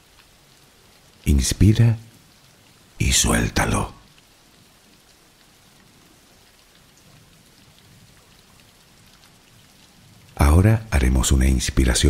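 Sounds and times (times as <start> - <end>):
faint steady rain: 0.0 - 12.0.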